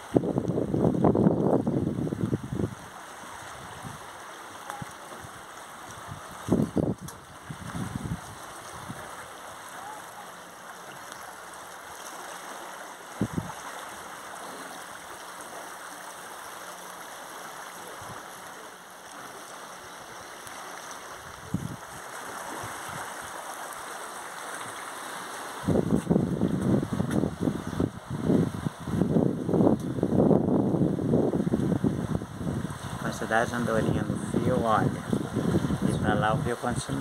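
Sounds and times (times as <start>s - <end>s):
rushing river water: 0.0s - 37.0s.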